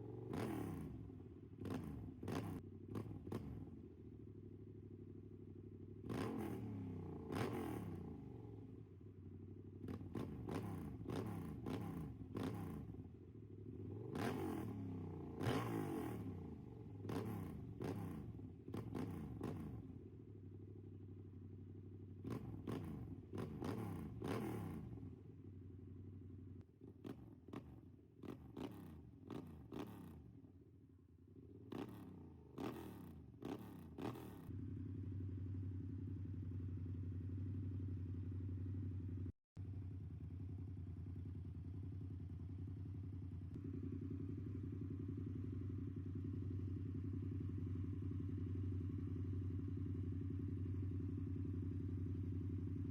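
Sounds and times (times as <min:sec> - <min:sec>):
motorcycle engine revving: 0:00.0 - 0:08.7, 0:09.3 - 0:19.9, 0:21.8 - 0:25.2, 0:26.9 - 0:30.3, 0:31.4 - 0:39.0, 0:40.7 - 0:52.9.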